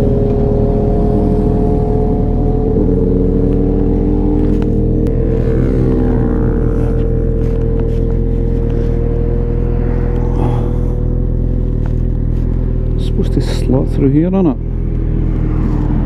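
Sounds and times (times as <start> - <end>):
vehicle passing by: 0.0 - 11.3, 14.4 - 16.0.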